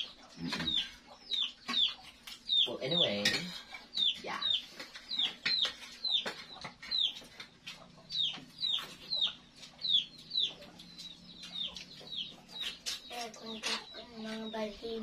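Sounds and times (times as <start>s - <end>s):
chickens peeping: 0.0s - 15.0s.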